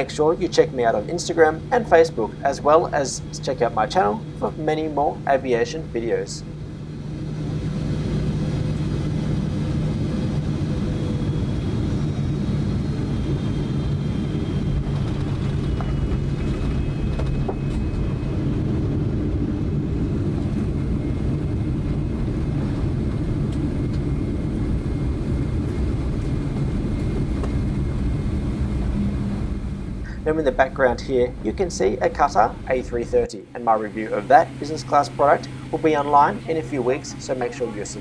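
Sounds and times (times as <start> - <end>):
jet engine rumble and whine: 0.0 - 38.0.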